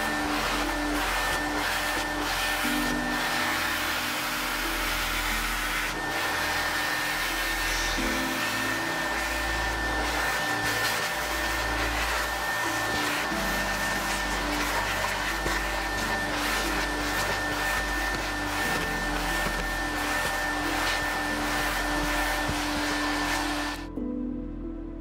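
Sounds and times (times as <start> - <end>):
carpet extractor suction: 0.0 - 23.9
vacuum motor whine: 0.0 - 23.9.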